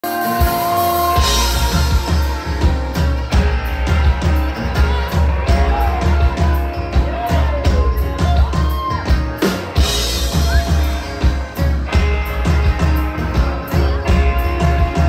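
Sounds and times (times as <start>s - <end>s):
bass line: 0.0s - 15.0s
live rock band: 0.0s - 15.0s
steady drum beat: 0.0s - 15.0s.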